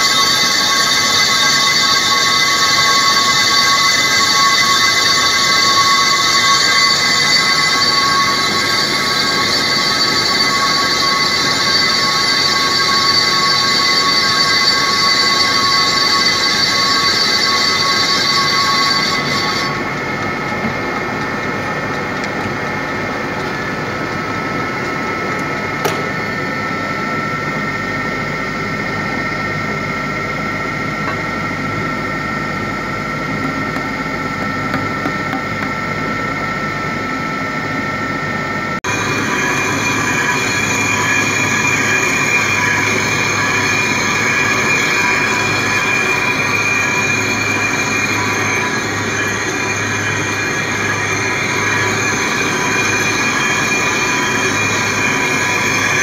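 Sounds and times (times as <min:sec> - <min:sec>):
cutting tool screeching whine: 0:00.0 - 0:56.0
machine running noise: 0:00.0 - 0:56.0.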